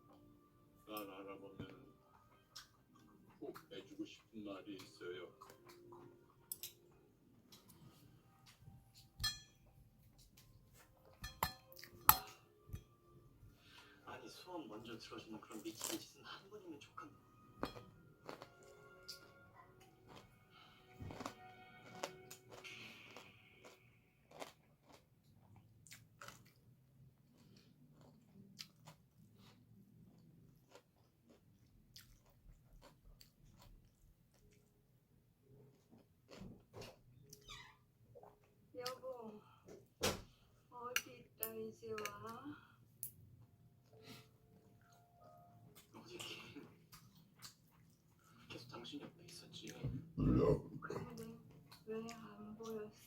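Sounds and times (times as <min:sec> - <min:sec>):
chewing and crunching food: 0:01.6 - 0:09.4, 0:13.6 - 0:40.0, 0:40.9 - 0:53.0.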